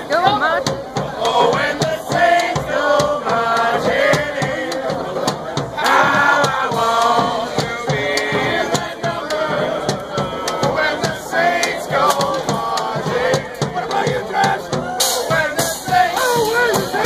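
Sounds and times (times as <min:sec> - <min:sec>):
bass drum and cymbal beat: 0:00.0 - 0:17.0
people singing together: 0:00.1 - 0:17.0.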